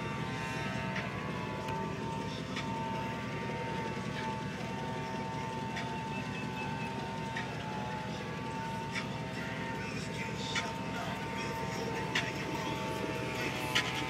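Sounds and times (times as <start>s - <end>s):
engine idling: 0.0s - 14.0s
high-pitched whine: 0.0s - 14.0s.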